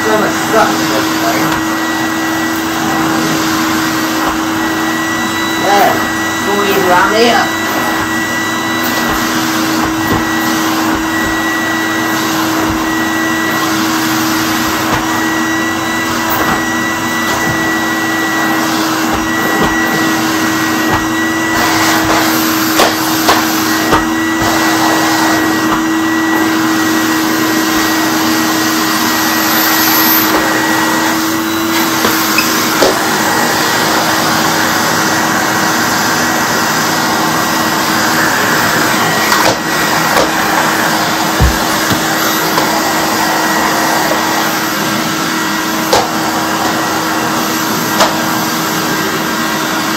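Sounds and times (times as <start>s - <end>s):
vacuum tool knocking: 0.0s - 49.0s
vacuum cleaner running: 0.0s - 49.9s.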